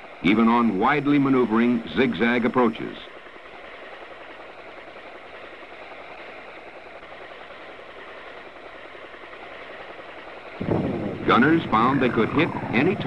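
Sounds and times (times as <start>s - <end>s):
faint engine-like drone: 0.0s - 13.0s.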